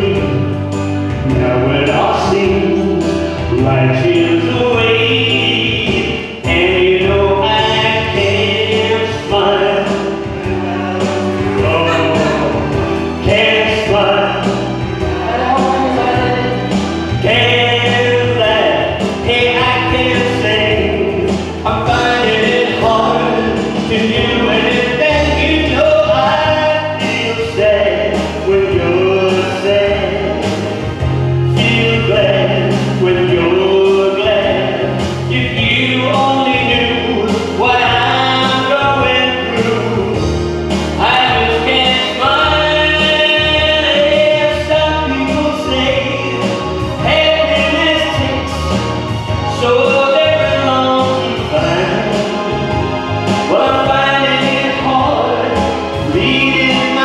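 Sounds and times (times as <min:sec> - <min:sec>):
backing music with bass line: 0:00.0 - 0:57.0
man singing into microphone: 0:00.0 - 0:57.0.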